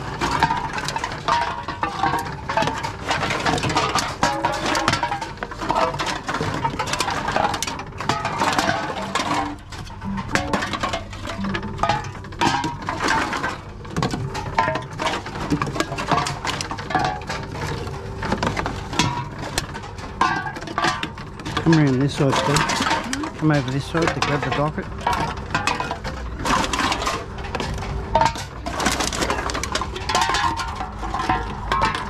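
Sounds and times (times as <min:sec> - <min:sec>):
aluminium cans clinking: 0:00.0 - 0:32.0.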